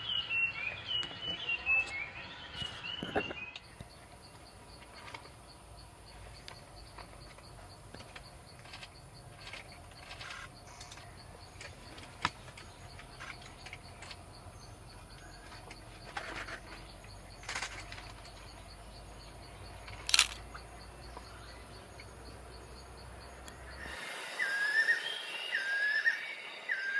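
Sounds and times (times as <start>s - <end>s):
forest ambience: 0.0s - 26.9s.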